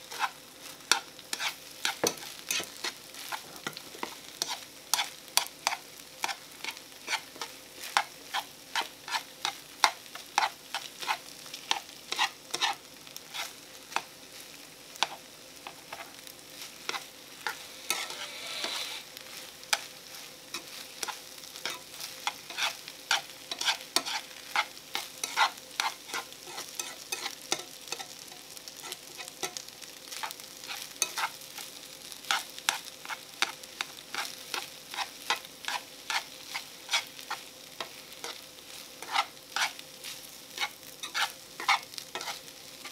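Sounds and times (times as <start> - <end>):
frying sizzle: 0.0 - 42.9
chopsticks scraping frying pan: 0.1 - 13.6, 16.8 - 38.4, 39.0 - 42.9.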